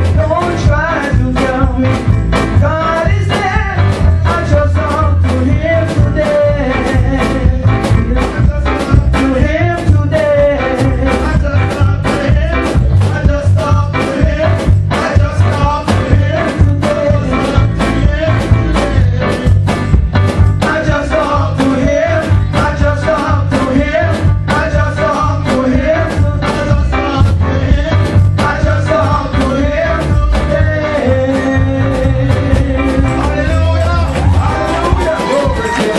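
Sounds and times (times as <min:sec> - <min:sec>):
person singing: 0:00.0 - 0:19.9, 0:20.6 - 0:35.9
upbeat music with drums: 0:00.0 - 0:35.9.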